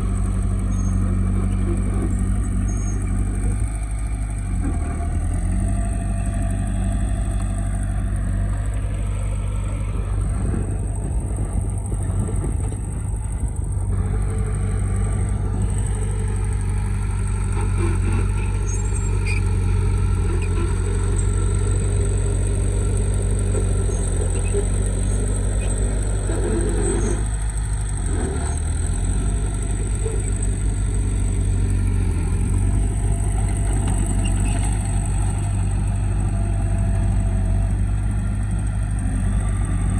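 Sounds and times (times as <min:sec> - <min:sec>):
heavy vehicle engine humming: 0:00.0 - 0:39.9.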